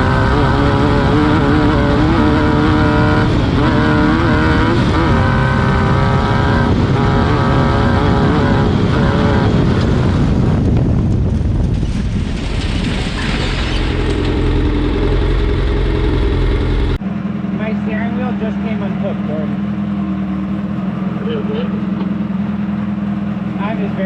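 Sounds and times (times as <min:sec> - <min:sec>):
buggy engine revving and idling: 0:00.0 - 0:12.0, 0:12.8 - 0:24.0.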